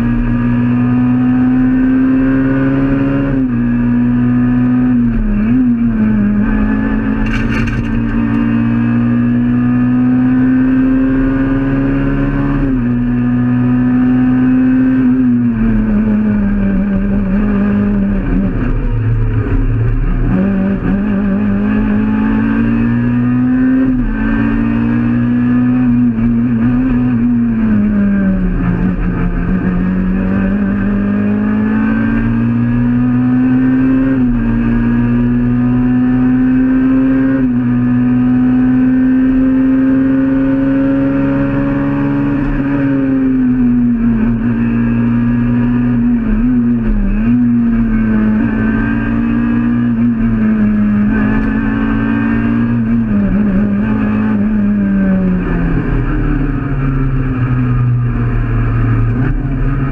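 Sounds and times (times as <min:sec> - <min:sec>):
rally car engine from cabin: 0:00.0 - 0:59.9.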